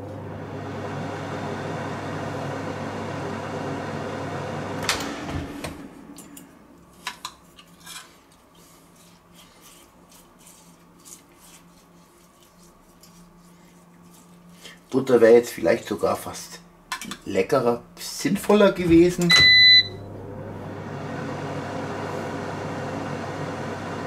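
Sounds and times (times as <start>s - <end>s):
fryer oven fan humming: 0.0s - 24.0s.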